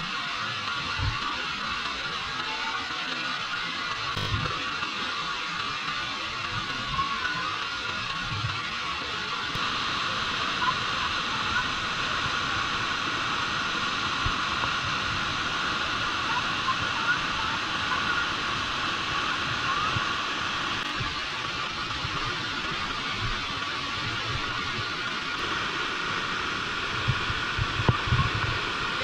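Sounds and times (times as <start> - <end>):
waterfall rushing: 0.6 - 29.0.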